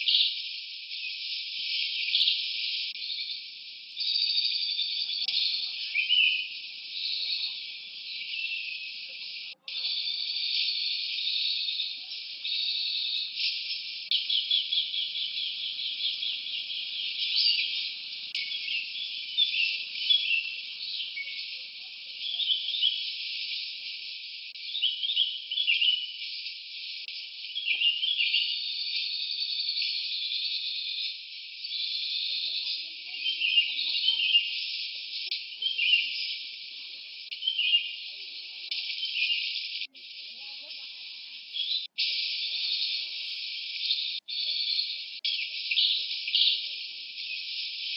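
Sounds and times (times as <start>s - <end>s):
high chirps and trills: 0.0s - 47.9s.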